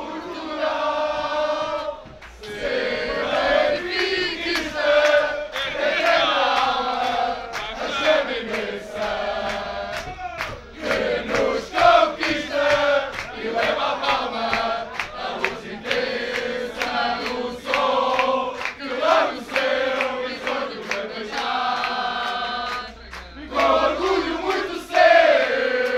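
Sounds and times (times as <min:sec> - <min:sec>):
crowd chanting in unison: 0:00.0 - 0:25.9
rhythmic hand claps: 0:00.2 - 0:25.9.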